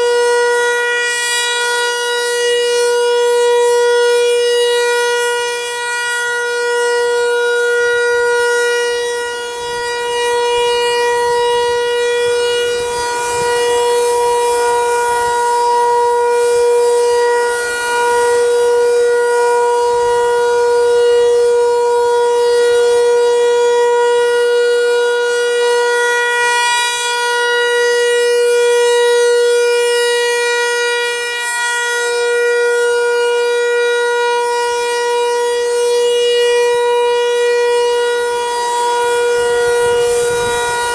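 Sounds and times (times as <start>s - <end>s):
outdoor warning siren: 0.0s - 40.9s.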